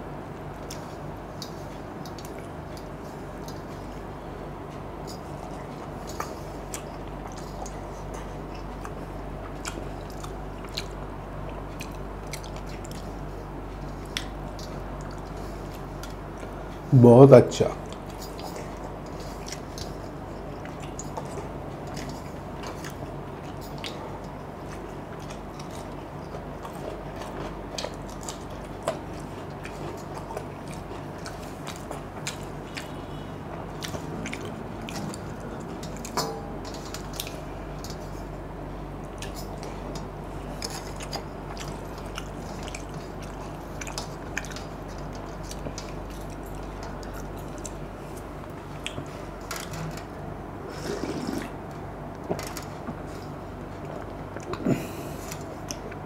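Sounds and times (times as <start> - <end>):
steady low hum: 0.0 - 56.0
man chewing: 0.4 - 16.9, 17.8 - 56.0.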